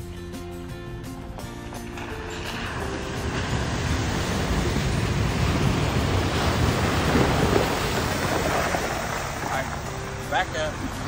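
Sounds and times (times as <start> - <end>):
vehicle splashing through creek: 1.4 - 11.0.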